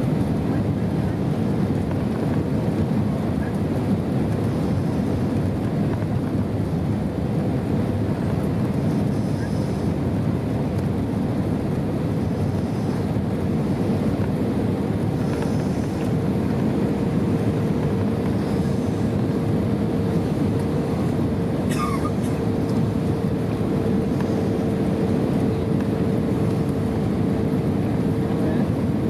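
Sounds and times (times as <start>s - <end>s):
airplane cabin engine rumble: 0.0s - 29.0s.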